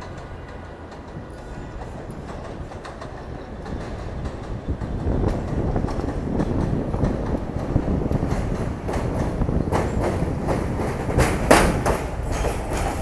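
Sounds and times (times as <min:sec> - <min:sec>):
subway train rumbling: 0:00.0 - 0:13.0
wheels clicking over rail joints: 0:00.0 - 0:13.0.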